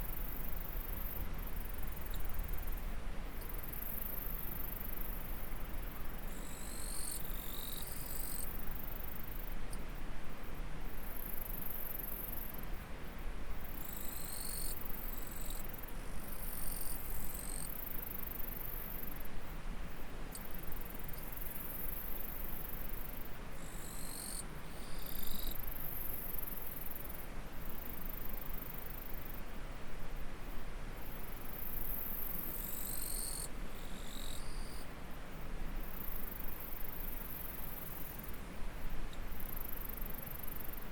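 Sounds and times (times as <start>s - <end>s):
low insect call: 0.0s - 40.9s.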